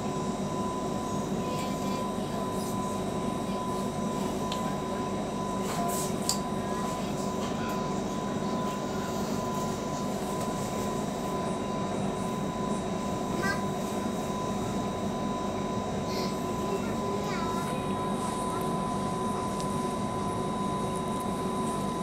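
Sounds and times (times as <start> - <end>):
train carriage running noise: 0.0 - 22.0.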